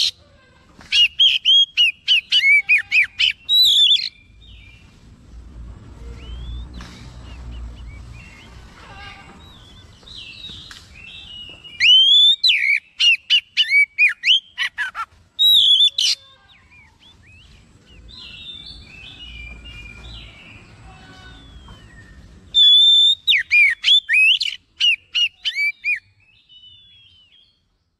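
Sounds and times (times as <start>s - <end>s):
bird whistled song: 0.9s - 4.9s, 6.0s - 8.6s, 9.4s - 20.4s, 21.2s - 27.7s
soft bird twittering: 0.9s - 5.2s, 6.0s - 27.7s.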